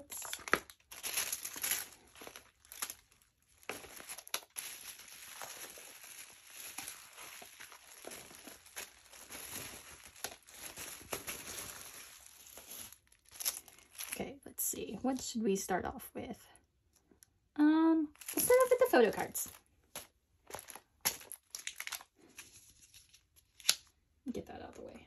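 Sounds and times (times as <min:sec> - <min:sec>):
bubble wrap bag crinkling: 0:00.0 - 0:15.3, 0:18.1 - 0:24.0.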